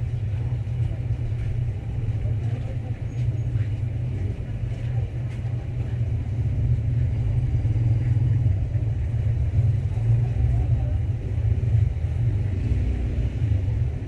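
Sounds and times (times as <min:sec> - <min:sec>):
faint voices: 0:00.0 - 0:14.0
steady low rumble: 0:00.0 - 0:14.0.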